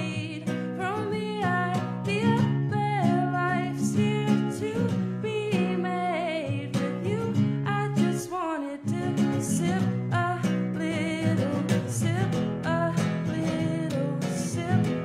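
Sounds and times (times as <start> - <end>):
acoustic guitars strummed: 0.0 - 15.0
woman singing folk song: 0.0 - 15.0.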